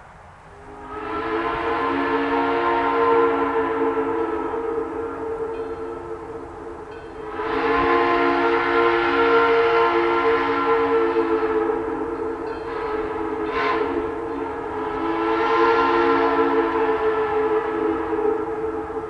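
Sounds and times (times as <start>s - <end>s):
distant steam locomotive whistle: 0.5s - 19.0s.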